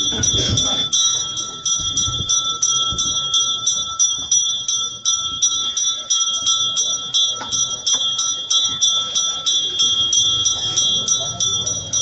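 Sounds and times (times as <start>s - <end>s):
bell ringing steadily: 0.0s - 12.0s.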